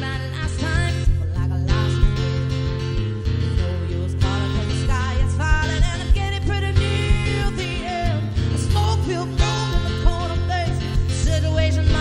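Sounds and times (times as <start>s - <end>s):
strummed acoustic guitar: 0.0s - 12.0s
woman singing amplified: 0.0s - 12.0s.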